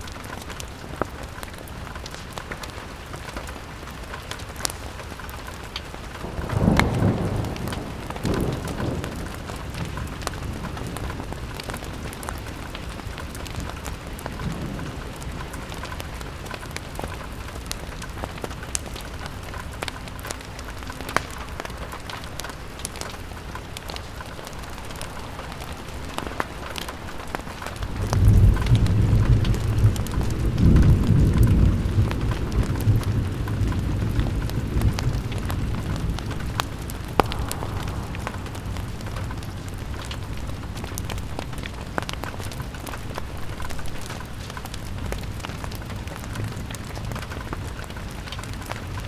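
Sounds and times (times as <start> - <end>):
rain pattering on a window: 0.0 - 49.0
thunder rumbling: 4.4 - 49.0.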